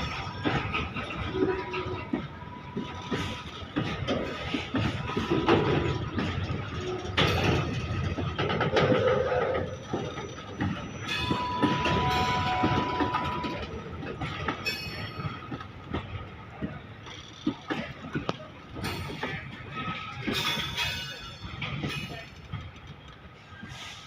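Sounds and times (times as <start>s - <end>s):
train wheels clattering: 0.0s - 24.0s.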